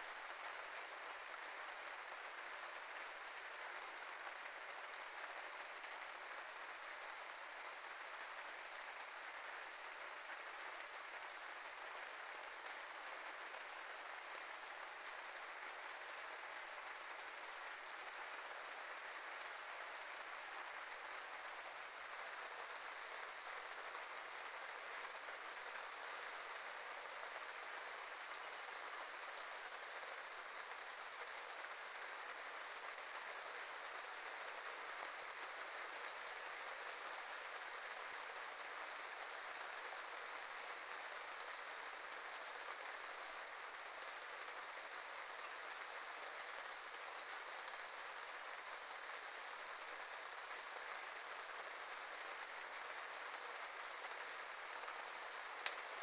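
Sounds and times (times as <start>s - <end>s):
rain hissing: 0.0s - 31.1s, 31.7s - 56.0s.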